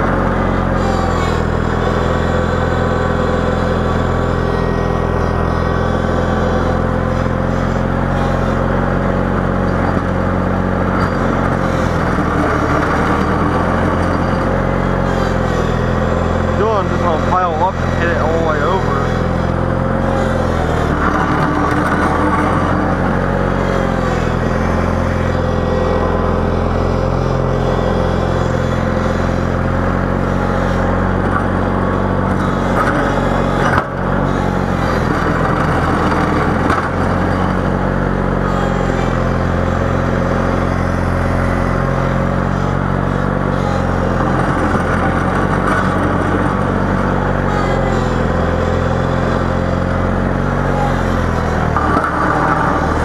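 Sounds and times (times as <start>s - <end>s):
snowplow engine running under load: 0.0s - 53.0s.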